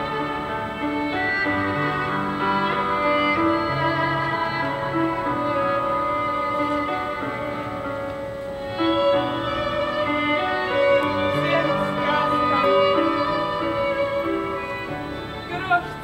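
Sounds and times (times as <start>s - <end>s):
held string notes: 0.0s - 16.0s
violin melody: 0.0s - 16.0s.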